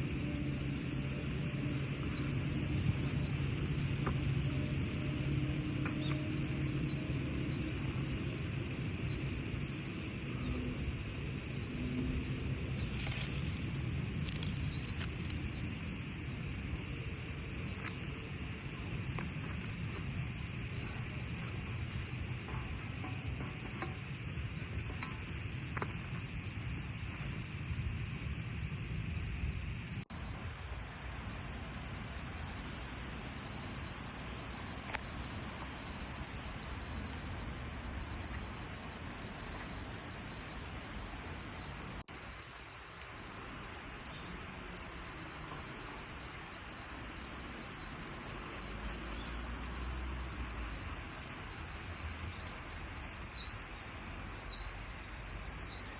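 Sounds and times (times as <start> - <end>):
crickets chirping in trills: 0.0 - 55.9.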